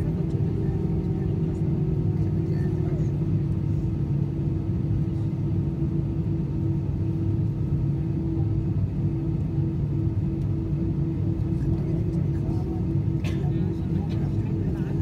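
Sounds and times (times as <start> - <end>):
jet engines idling rumble: 0.0 - 15.0.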